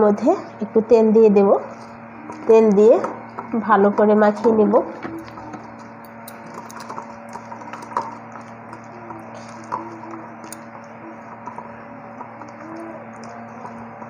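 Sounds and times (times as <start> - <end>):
faint steady hum: 0.0 - 14.0
fingers squishing paste in bowl: 1.6 - 14.0.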